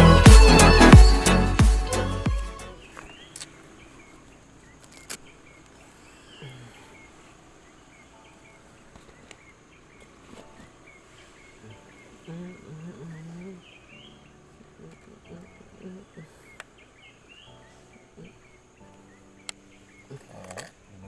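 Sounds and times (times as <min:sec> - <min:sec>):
insects droning: 0:02.7 - 0:21.0.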